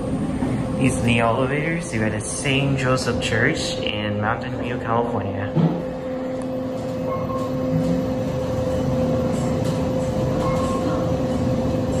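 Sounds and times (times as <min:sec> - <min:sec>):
elevator ride hum: 0:00.0 - 0:12.0.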